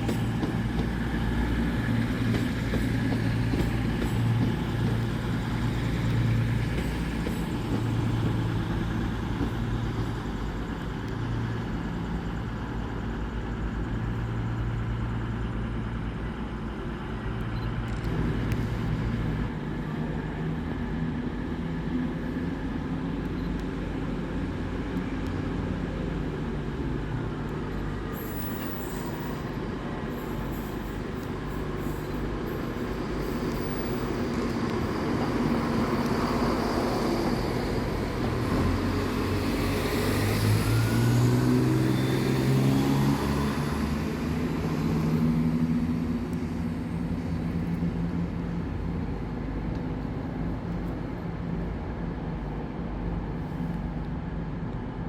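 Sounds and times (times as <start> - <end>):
train engine and traction noise: 0.0 - 55.0.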